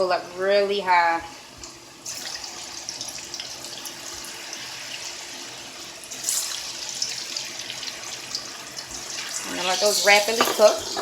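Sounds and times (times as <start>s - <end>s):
potatoes frying in hot oil: 0.8s - 11.0s.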